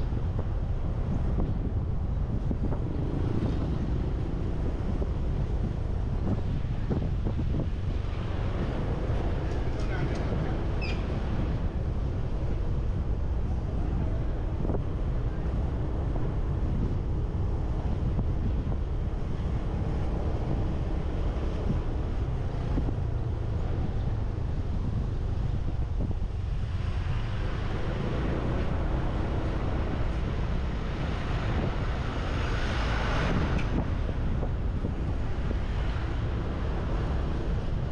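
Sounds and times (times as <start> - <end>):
road noise: 0.0 - 37.9
wind buffeting microphone: 0.0 - 37.9.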